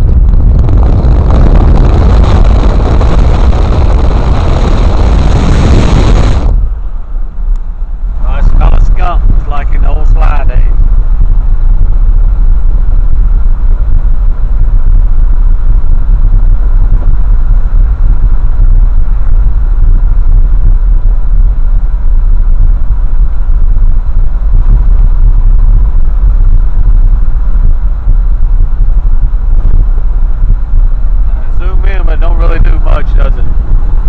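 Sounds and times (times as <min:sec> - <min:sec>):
low rumble inside moving truck: 0:00.0 - 0:34.0.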